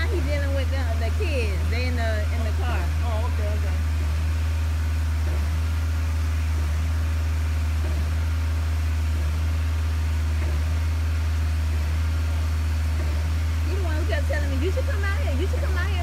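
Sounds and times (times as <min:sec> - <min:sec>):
pump engine droning: 0:00.0 - 0:16.0.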